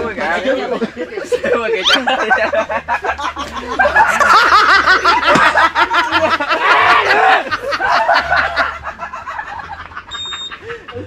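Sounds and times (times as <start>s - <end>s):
people laughing loudly: 0.0s - 11.0s.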